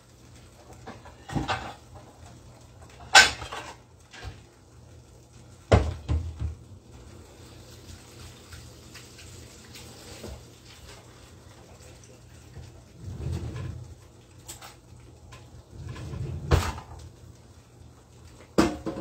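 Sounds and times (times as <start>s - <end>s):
kitchen clatter: 0.4s - 4.6s, 5.6s - 17.3s, 18.2s - 19.0s.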